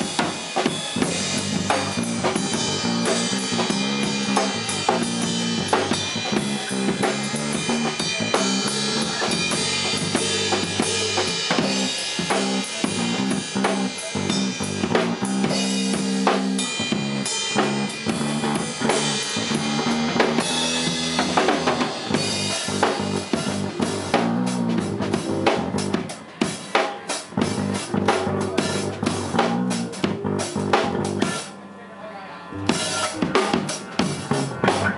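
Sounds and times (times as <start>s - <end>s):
drum kit beat: 0.0s - 31.6s, 32.6s - 34.9s
electric bass guitar: 1.0s - 26.1s, 27.3s - 31.5s, 32.6s - 34.9s.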